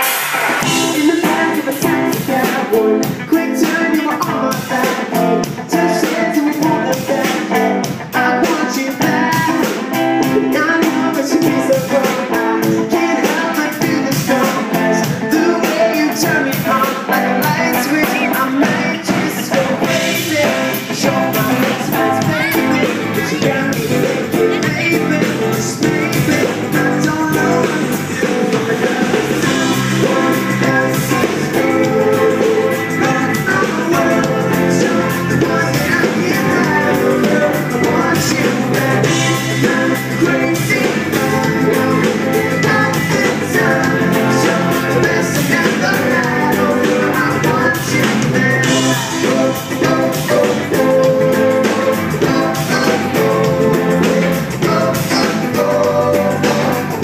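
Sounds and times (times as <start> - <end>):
drum kit beat: 0.0 - 57.0
electric guitar: 0.0 - 57.0
person singing: 0.0 - 57.0.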